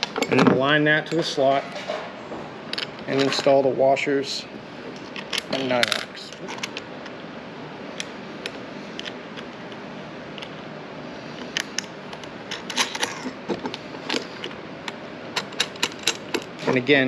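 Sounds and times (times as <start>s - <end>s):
room noise: 0.0s - 17.0s.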